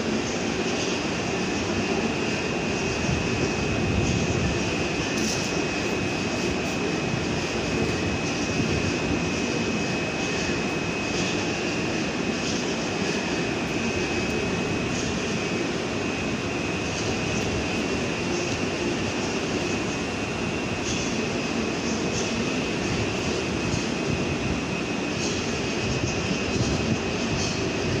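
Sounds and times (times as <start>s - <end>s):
train mechanical hum: 0.0s - 28.0s.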